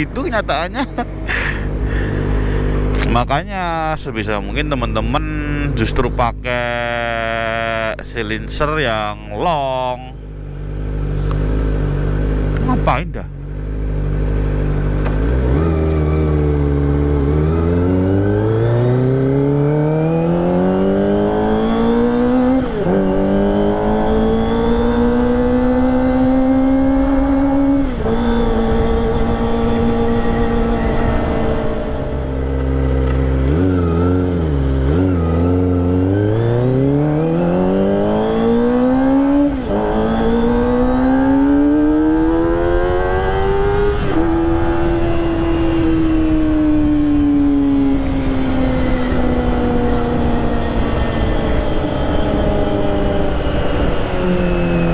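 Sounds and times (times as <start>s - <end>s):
motorcycle engine accelerating hard: 9.7s - 54.9s.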